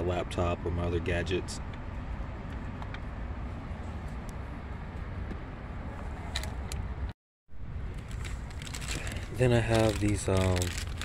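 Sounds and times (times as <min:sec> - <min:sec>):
low outdoor rumble: 0:01.0 - 0:11.0.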